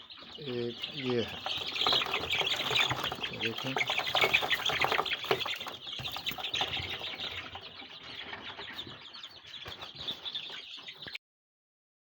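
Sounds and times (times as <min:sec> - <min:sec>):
chicks peeping: 0:00.0 - 0:11.2.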